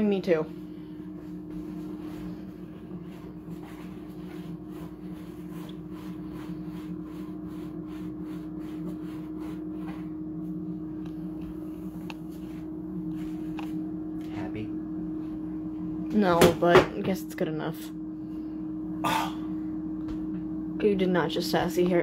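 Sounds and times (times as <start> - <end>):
air fryer fan humming: 0.0 - 22.0.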